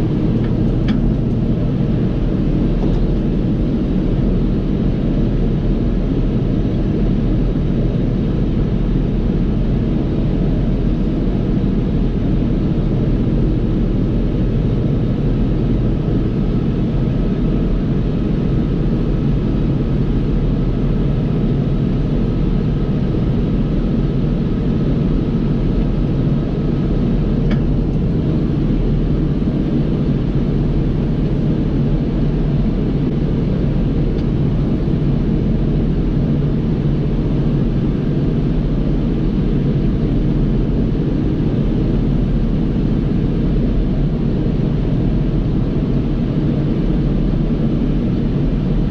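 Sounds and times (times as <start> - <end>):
tractor and baler drone: 0.0 - 48.9.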